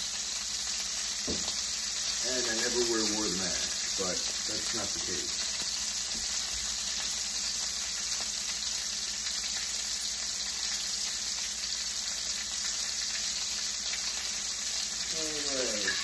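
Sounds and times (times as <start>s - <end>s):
steak sizzling in a pan: 0.0s - 16.0s.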